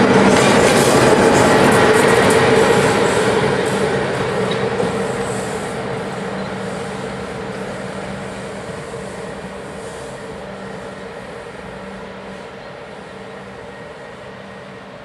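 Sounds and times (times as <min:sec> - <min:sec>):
electric locomotive rumbling past: 0:00.0 - 0:15.0.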